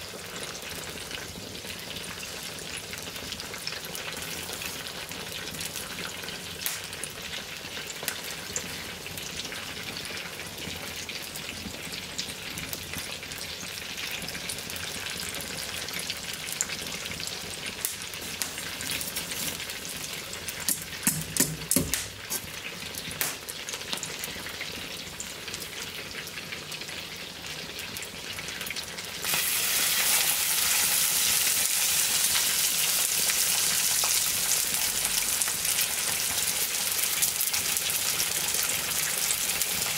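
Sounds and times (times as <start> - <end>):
chicken frying in a pan: 0.0 - 39.9.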